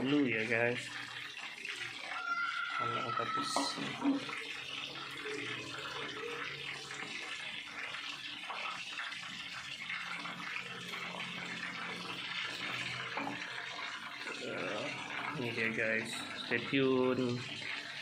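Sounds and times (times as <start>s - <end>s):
liquid pouring and splashing into jug: 0.0s - 18.0s.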